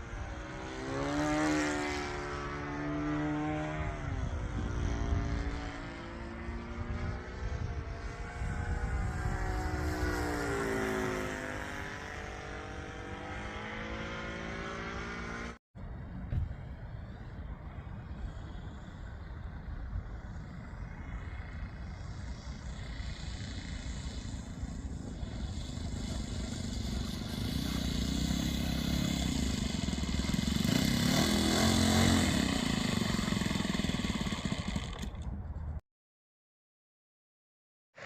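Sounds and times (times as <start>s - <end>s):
wind rumble on microphone: 0.0s - 14.4s, 15.8s - 35.8s
model plane engine droning: 0.0s - 15.6s, 16.4s - 35.5s.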